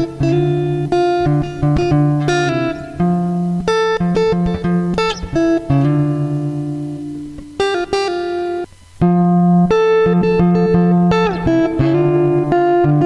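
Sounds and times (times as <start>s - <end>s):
electric guitar lead melody: 0.0s - 13.0s.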